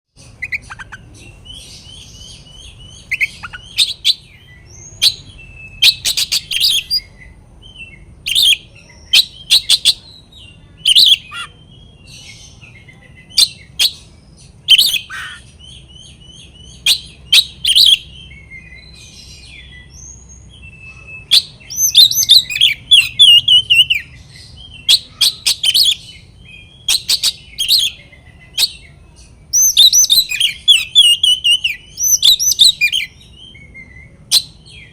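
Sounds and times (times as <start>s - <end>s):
bird singing whistles and chatter: 0.2s - 34.9s.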